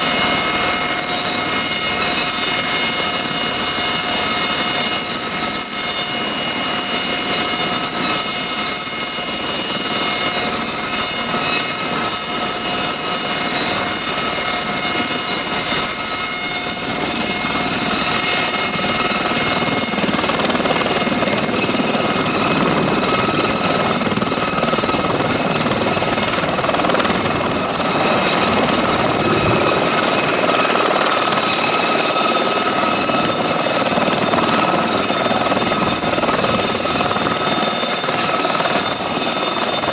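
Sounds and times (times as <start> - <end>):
helicopter rotor noise: 0.0 - 39.9
high-pitched turbine whine: 0.0 - 39.9.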